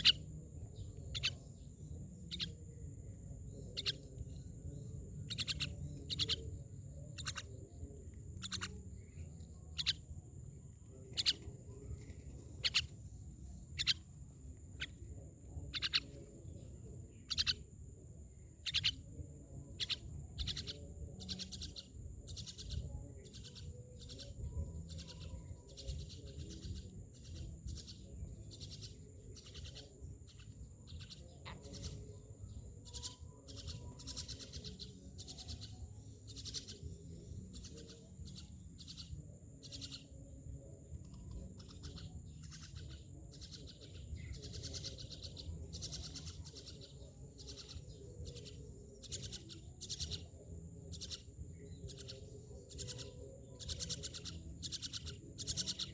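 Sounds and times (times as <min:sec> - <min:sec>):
myna birds chirping: 0:00.0 - 0:55.9.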